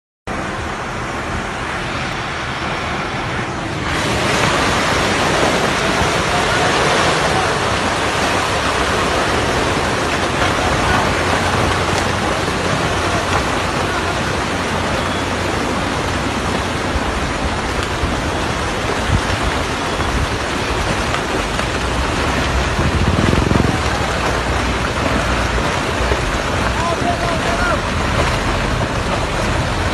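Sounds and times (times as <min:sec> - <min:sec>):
rocks and soil pouring downhill: 0:03.9 - 0:29.9.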